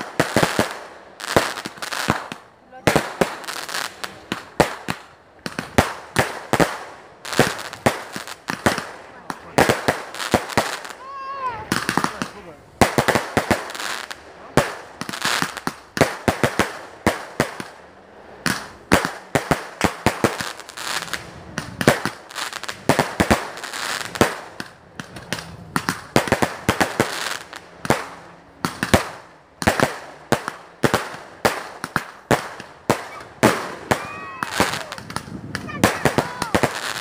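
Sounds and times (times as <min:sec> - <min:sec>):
fireworks bangs: 0:00.0 - 0:37.0
fireworks crackle and hiss: 0:00.0 - 0:37.0.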